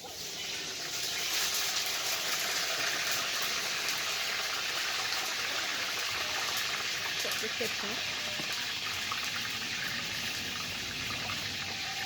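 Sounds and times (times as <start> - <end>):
water running from tap: 1.5 - 12.0.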